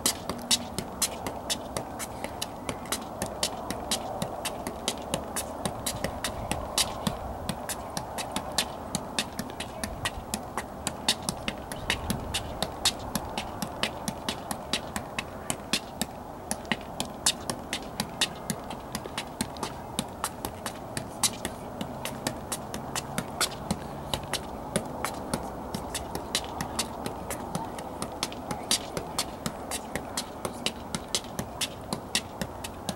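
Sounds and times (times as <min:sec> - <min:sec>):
foot tapping soccer ball: 0:00.0 - 0:32.9.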